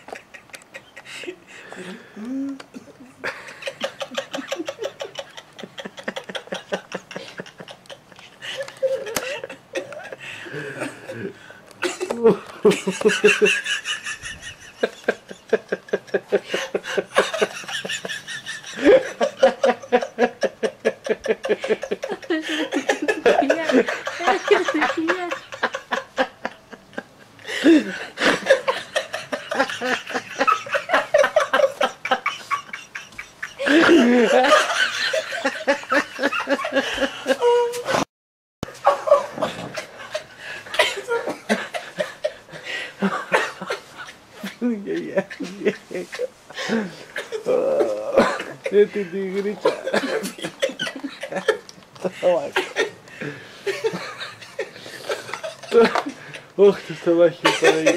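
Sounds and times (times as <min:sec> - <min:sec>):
person laughing: 0:00.0 - 0:38.0, 0:38.8 - 0:57.9.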